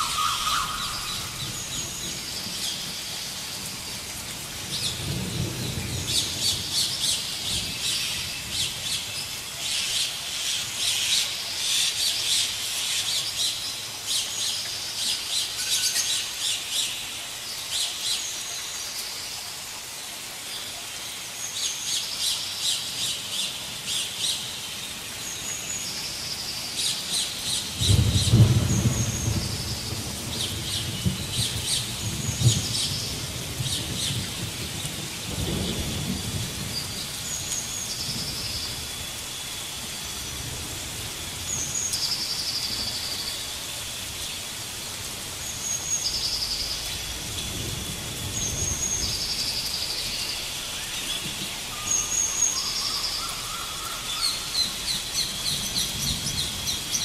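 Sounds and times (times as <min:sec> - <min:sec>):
forest birds chirping: 0:00.0 - 0:57.0.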